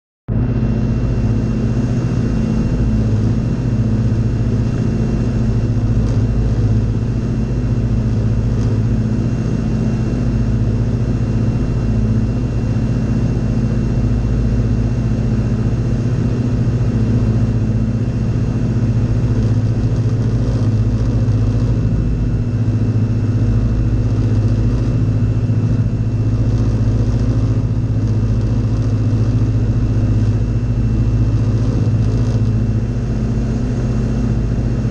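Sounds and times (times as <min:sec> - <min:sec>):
aircraft engine and propeller drone: 0:00.3 - 0:34.9
thin high whine: 0:00.4 - 0:34.9.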